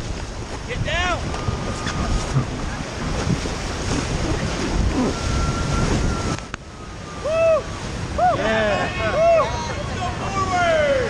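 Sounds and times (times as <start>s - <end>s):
steady rush like surf: 0.0s - 11.0s
wind buffeting microphone: 0.0s - 11.0s.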